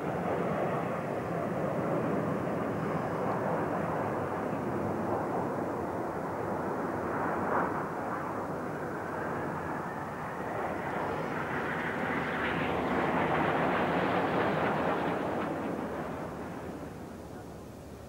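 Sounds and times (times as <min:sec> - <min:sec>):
jets flying past: 0:00.0 - 0:18.0.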